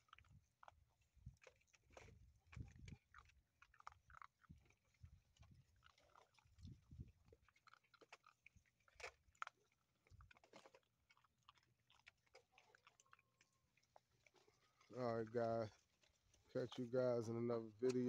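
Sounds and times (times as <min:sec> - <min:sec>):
puppies chewing and crunching: 0:00.0 - 0:18.0.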